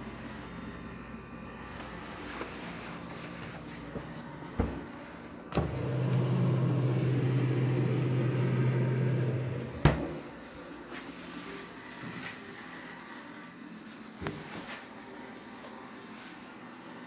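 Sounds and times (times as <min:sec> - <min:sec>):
low electric hum: 0:00.0 - 0:15.8.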